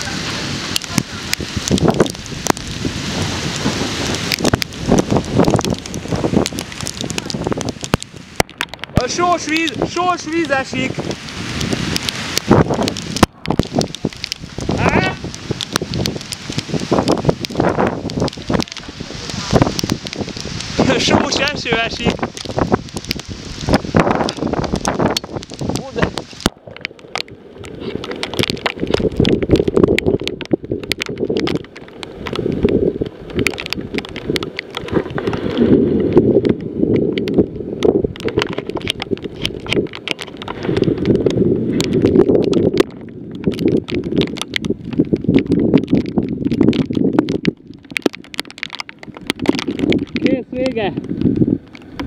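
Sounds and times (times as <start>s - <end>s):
gusty wind buffeting microphone: 0.0s - 52.0s
rain ticking on microphone: 0.0s - 52.0s.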